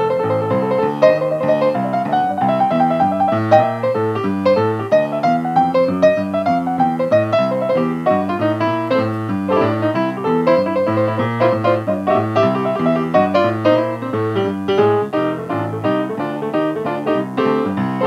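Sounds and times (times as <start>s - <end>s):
upbeat solo piano: 0.0s - 18.0s.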